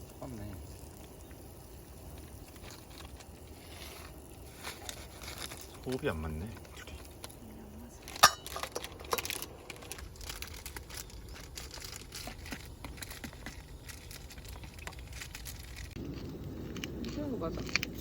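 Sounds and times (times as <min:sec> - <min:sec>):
crinkling and rustling: 0:02.2 - 0:18.0.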